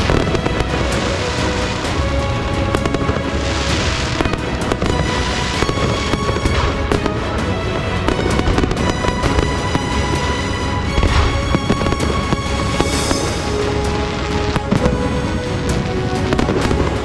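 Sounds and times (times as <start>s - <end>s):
fireworks hissing: 0.0s - 16.9s
steady music: 0.0s - 17.0s.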